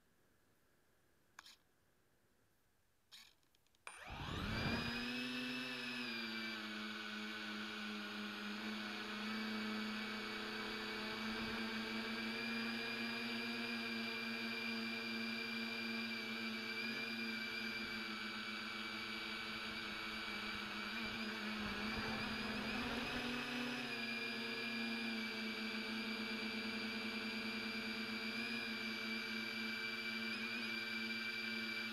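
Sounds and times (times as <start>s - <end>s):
drone motors buzzing whine: 3.1s - 31.9s.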